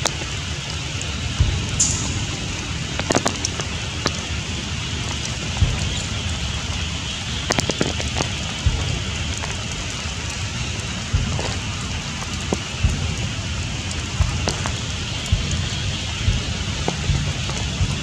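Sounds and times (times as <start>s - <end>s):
rain falling through foliage: 0.0s - 18.0s
sharp water drips: 0.0s - 18.0s.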